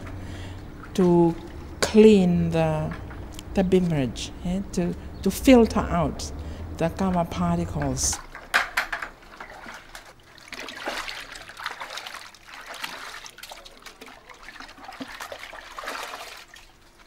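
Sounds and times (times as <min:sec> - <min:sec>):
liquid sloshing in a bucket: 0:00.0 - 0:04.1, 0:06.6 - 0:17.0.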